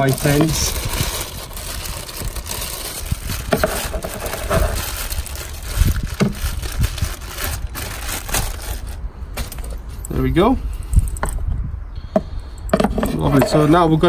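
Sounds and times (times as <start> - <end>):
low rumble: 0.0 - 12.5.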